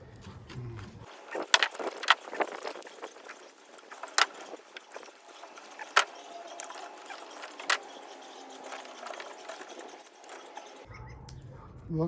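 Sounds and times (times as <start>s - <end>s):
copper wire crackling and rustling: 0.0s - 10.9s.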